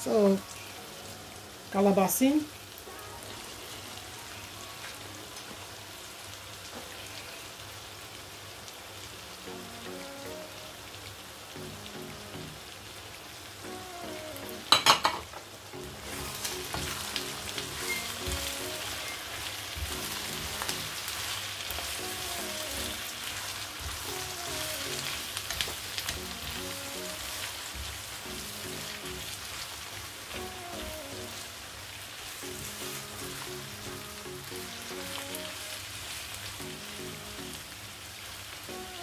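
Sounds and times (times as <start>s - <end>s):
soft background music: 0.0s - 6.4s, 9.1s - 39.0s
vegetables sizzling in a frying pan: 0.0s - 39.0s.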